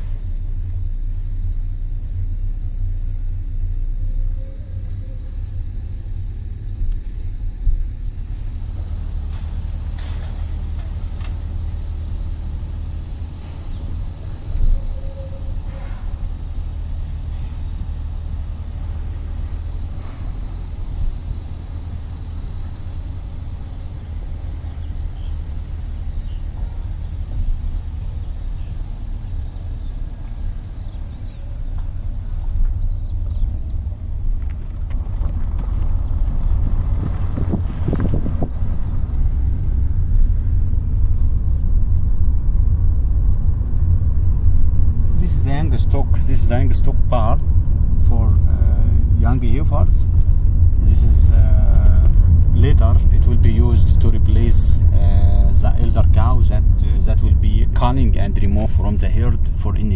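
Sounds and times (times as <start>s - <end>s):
vehicle interior rumble: 0.0s - 59.9s.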